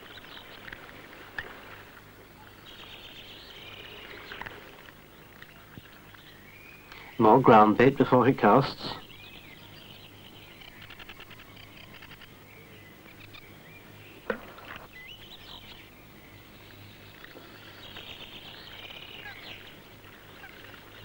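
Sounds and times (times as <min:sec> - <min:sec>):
faint steady hum: 0:00.0 - 0:21.0
small birds chirping: 0:00.0 - 0:21.0.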